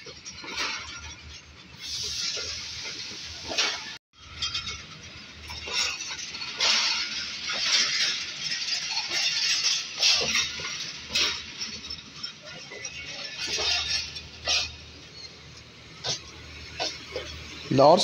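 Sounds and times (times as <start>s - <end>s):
train wheels clattering over rail joints: 0.0s - 17.7s.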